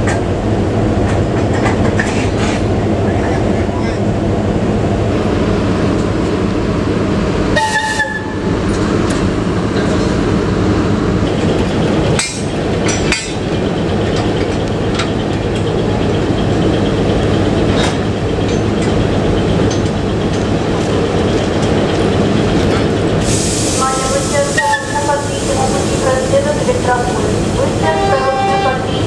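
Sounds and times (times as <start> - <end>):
locomotive machinery humming: 0.0 - 29.0.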